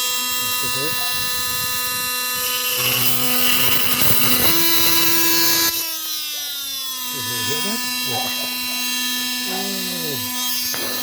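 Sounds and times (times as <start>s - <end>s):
blade cutting into material: 0.0s - 11.0s
oscillating multi-tool whine: 0.0s - 11.0s.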